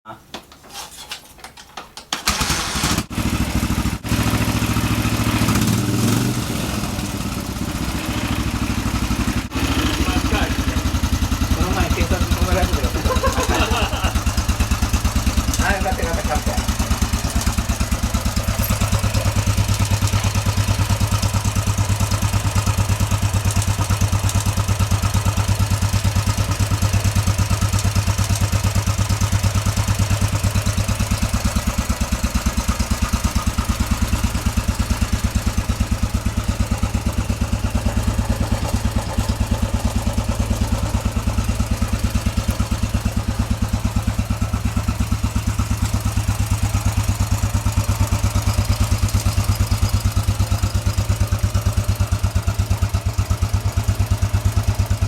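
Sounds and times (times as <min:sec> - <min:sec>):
motorcycle engine idling: 0:01.6 - 0:55.0.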